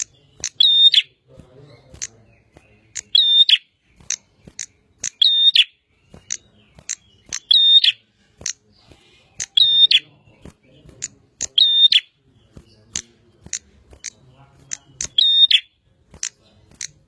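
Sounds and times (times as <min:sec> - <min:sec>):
bird singing high chips and trills: 0:00.0 - 0:17.0.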